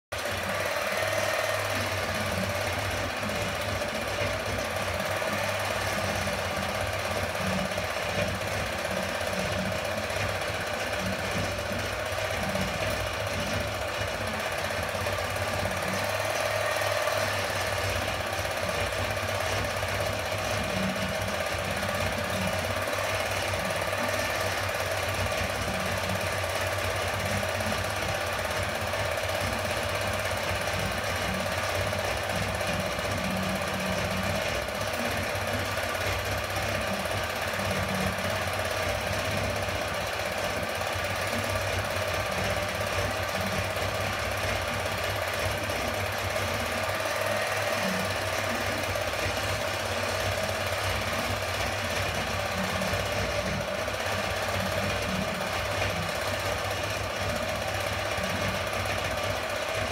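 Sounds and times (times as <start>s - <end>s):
film projector clattering: 0.1s - 59.9s.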